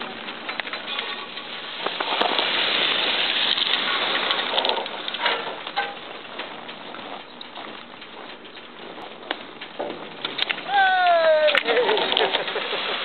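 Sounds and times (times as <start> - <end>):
skis scraping over snow: 0.1 - 13.0.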